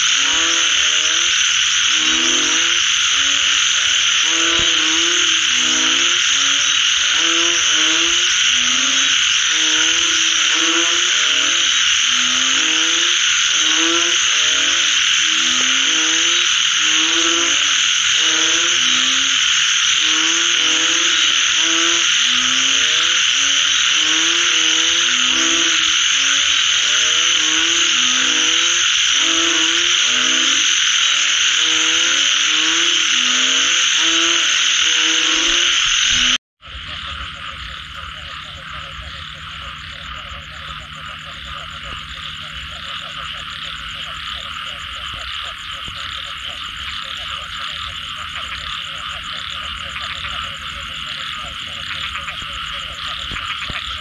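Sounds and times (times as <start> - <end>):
deep frog croaks: 0.0 - 54.0
high-pitched frog chorus: 0.0 - 54.0
rapid pulsing frog calls: 0.0 - 54.0.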